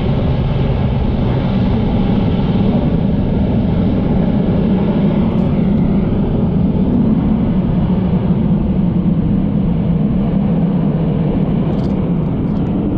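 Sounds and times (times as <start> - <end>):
jet airliner rumble: 0.0 - 12.9.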